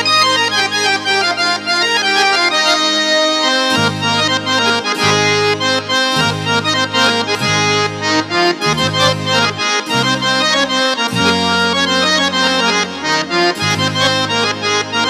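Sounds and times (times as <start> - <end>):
low held keyboard notes: 0.0 - 15.0
reedy harmonium-like keyboard melody: 0.0 - 15.0.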